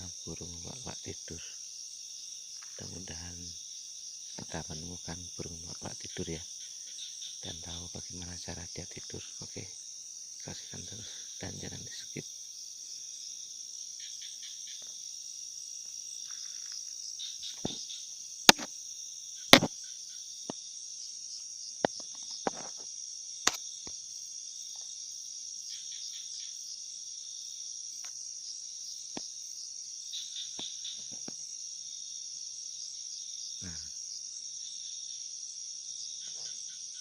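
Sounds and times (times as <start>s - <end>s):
crickets and insects chorus: 0.0s - 37.0s.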